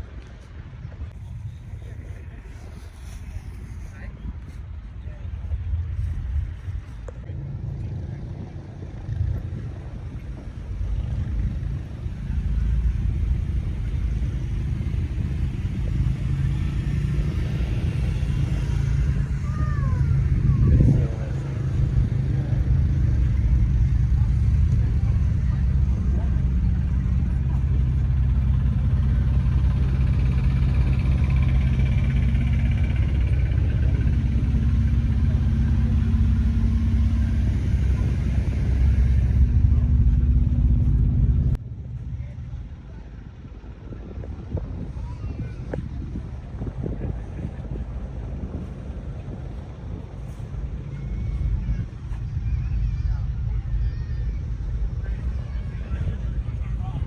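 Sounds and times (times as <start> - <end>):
truck diesel engine rumbling: 5.6 - 57.0.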